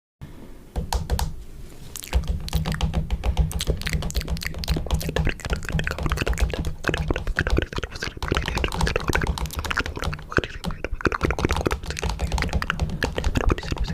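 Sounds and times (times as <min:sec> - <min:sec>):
rapid clicking and tapping: 0:02.0 - 0:13.9.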